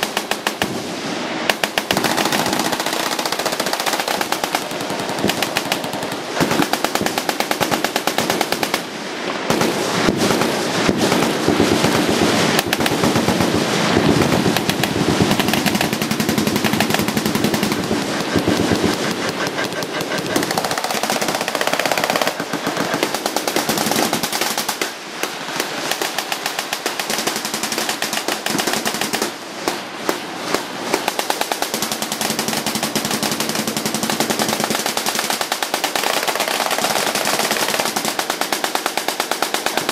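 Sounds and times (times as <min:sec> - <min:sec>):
machine guns firing: 0:00.0 - 0:39.9.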